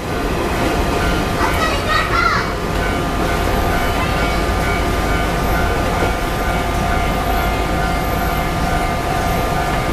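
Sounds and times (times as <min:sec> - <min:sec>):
electric trains rumbling: 0:00.0 - 0:09.9.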